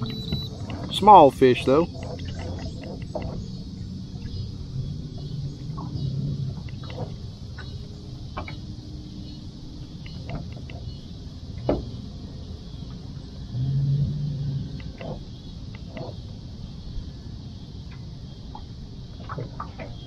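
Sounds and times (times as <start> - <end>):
wind rumble: 0.0 - 20.0.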